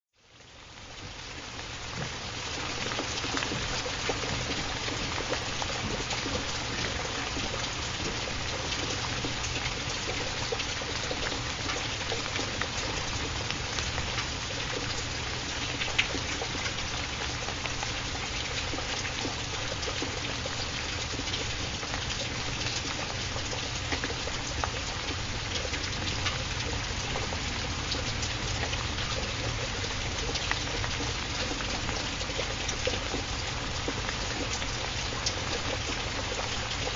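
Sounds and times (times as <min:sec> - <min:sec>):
steady rainfall: 0:00.1 - 0:36.9.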